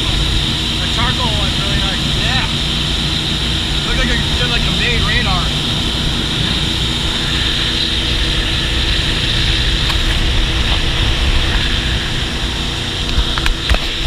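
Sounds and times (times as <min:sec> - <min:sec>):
motorboat engine droning: 0:00.0 - 0:14.0
rush of wind and water: 0:00.0 - 0:14.0.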